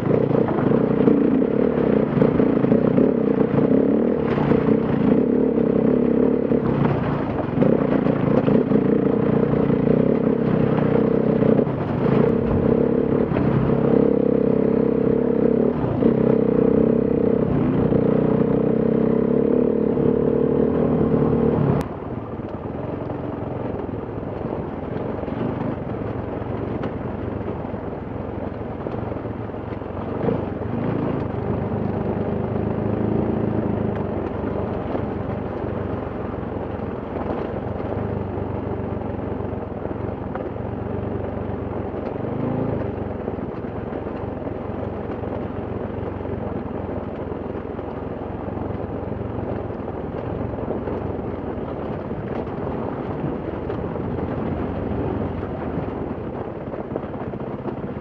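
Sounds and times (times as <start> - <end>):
motorcycle engine at low revs: 0.0 - 58.0.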